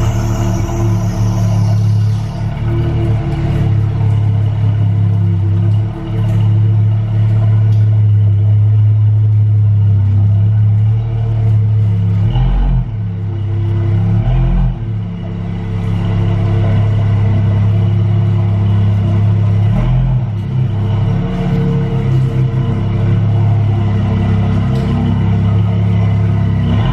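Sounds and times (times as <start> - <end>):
car engine running: 0.0 - 26.9.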